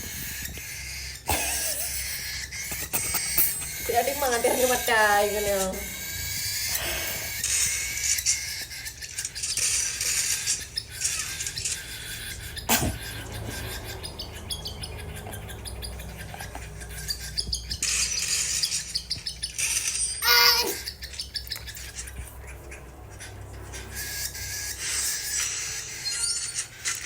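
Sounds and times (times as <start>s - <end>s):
parrot squawking and chirping: 0.0s - 27.0s.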